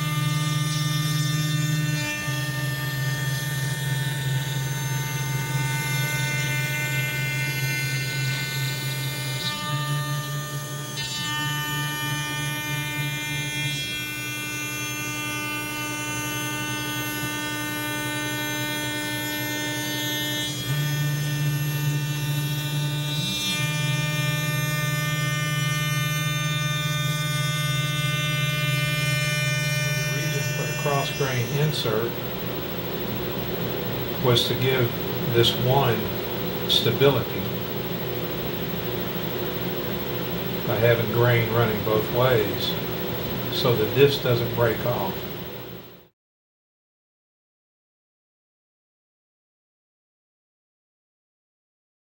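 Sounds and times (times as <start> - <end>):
cnc router spindle whining: 0.0 - 46.1.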